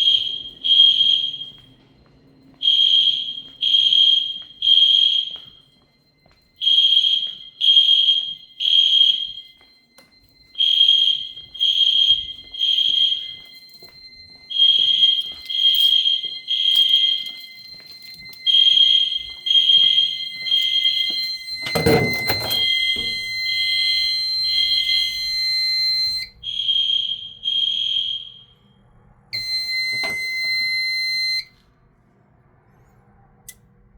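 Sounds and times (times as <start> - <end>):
fire alarm beeping: 0.0 - 31.9.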